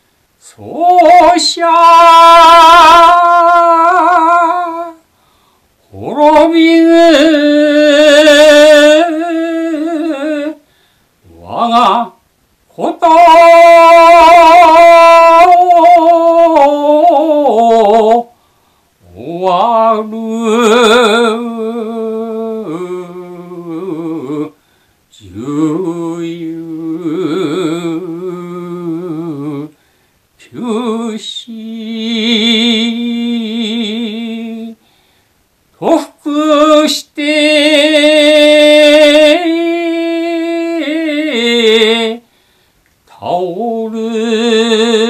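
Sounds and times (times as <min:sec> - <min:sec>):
man chanting: 0:00.4 - 0:05.0, 0:05.8 - 0:10.6, 0:11.2 - 0:18.3, 0:19.0 - 0:29.7, 0:30.4 - 0:34.8, 0:35.8 - 0:42.3, 0:43.1 - 0:45.0.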